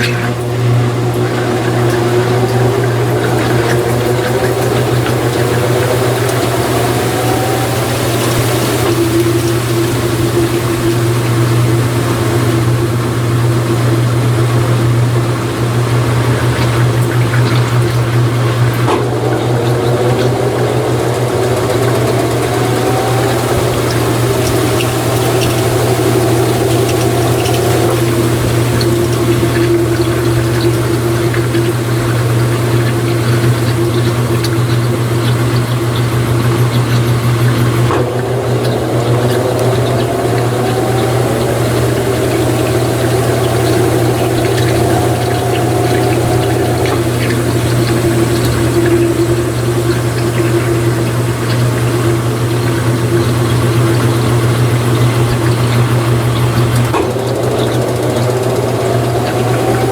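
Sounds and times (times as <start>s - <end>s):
water running out: 0.0s - 13.9s, 15.9s - 59.9s
drain pump humming: 0.0s - 59.9s
motor tone rising: 0.0s - 59.9s.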